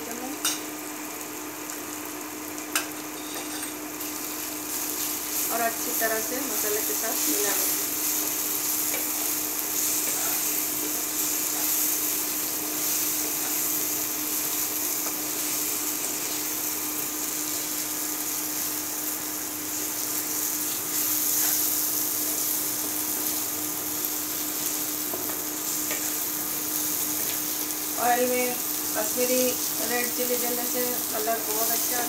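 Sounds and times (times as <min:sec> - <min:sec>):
spiced onions sizzling in oil: 0:00.0 - 0:32.0.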